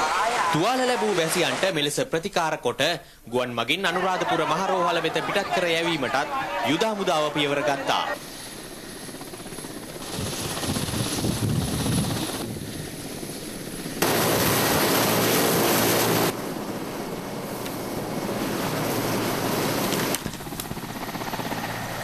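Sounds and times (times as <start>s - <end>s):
helicopter rotor and engine: 3.8s - 22.0s.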